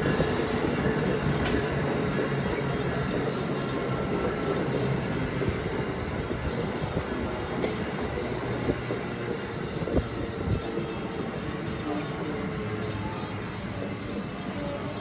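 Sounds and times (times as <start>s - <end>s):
faint high wheel squeal: 0.0s - 15.0s
train wheels rumbling on rail: 0.0s - 15.0s.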